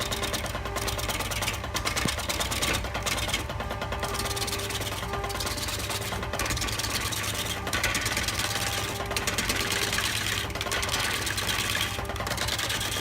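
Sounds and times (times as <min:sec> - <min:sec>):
rapid mechanical clatter: 0:00.0 - 0:13.0
woodworking machine hum: 0:00.0 - 0:13.0.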